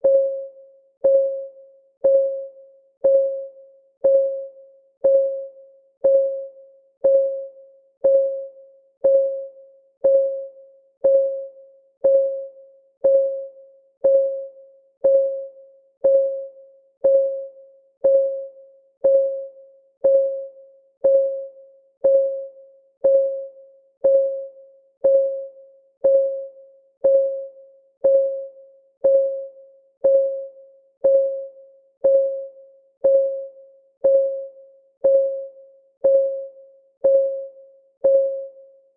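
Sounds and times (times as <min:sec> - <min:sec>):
timer ticking: 0:01.0 - 0:38.6.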